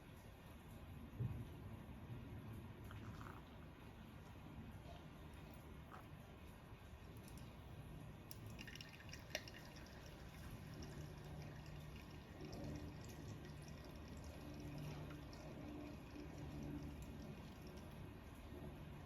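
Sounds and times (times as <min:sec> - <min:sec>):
low steady hum: 0:00.0 - 0:19.0
faint liquid dripping: 0:02.5 - 0:19.0.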